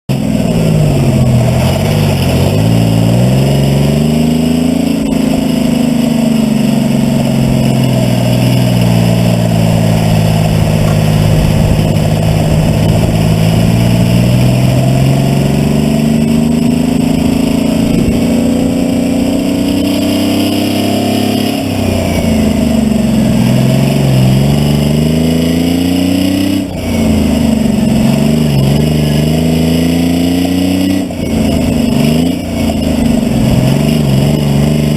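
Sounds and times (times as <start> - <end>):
diesel truck engine revving: 0.1 - 34.9.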